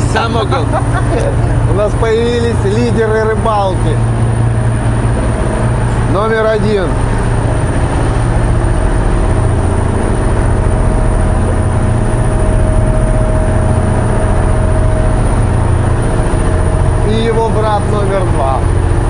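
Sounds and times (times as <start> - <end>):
boat engine drone: 0.0 - 19.0
faint steady whine: 0.0 - 19.0.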